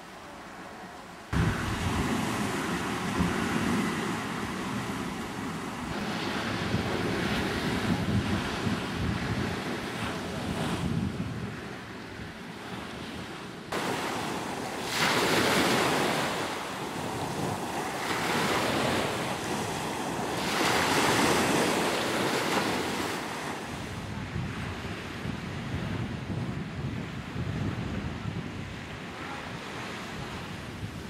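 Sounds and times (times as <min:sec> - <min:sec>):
waves breaking on sandy beach: 0:01.3 - 0:31.0
wind buffeting microphone: 0:01.3 - 0:31.0.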